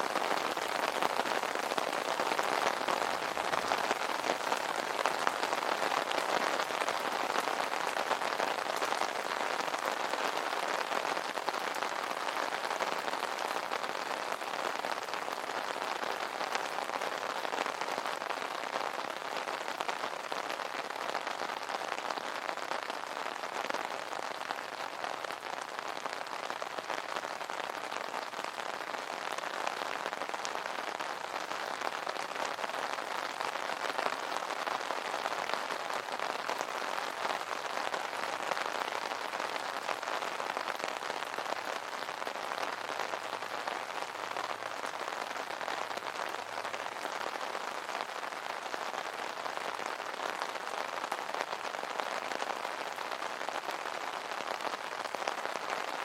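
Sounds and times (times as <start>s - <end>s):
rain falling on an umbrella: 0.0s - 56.0s.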